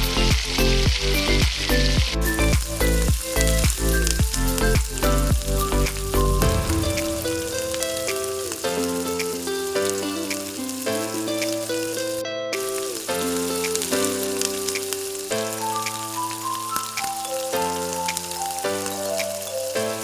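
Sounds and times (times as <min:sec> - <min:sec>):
background music: 0:00.0 - 0:20.0
food sizzling in a pan: 0:00.0 - 0:20.0.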